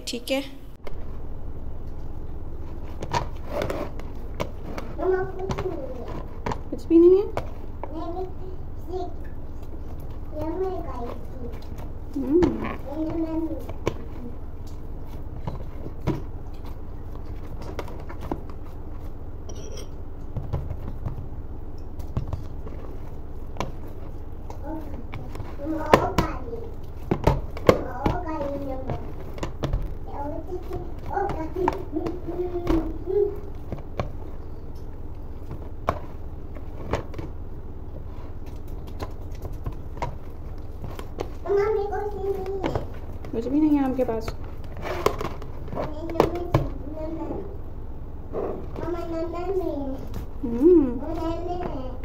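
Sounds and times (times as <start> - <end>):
steady low hum: 0.0 - 52.0
hands kneading dough in plastic tub: 0.9 - 19.4, 20.2 - 52.0.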